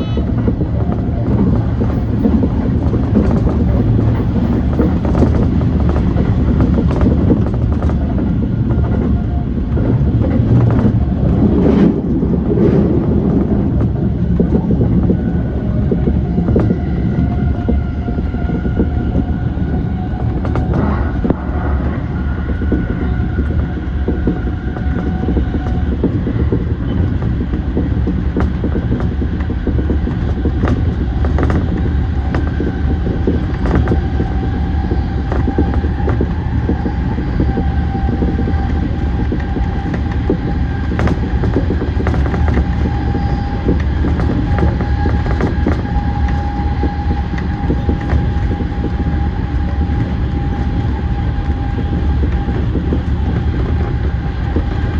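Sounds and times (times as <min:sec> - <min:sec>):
train rumbling at speed: 0:00.0 - 0:54.9
wheels clicking over rail joints: 0:00.0 - 0:54.9.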